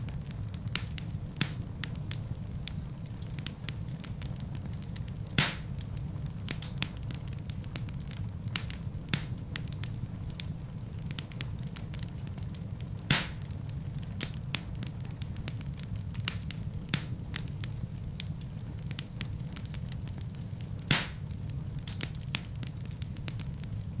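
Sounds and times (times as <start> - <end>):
fireplace fire crackling: 0.0 - 24.0
low rumble of flames: 0.0 - 24.0
sharp pops and snaps: 0.2 - 12.2, 13.0 - 23.9.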